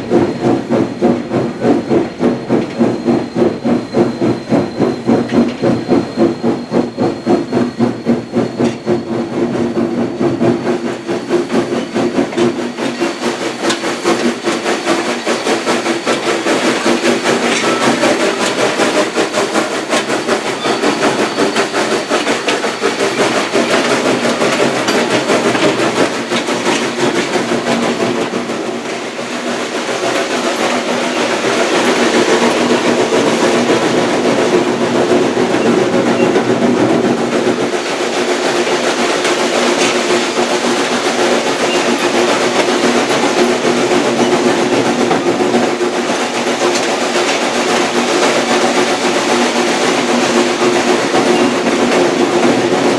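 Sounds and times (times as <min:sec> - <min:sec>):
steam locomotive exhaust beats: 0:00.0 - 0:52.9
wheels clattering on rail: 0:00.0 - 0:52.9.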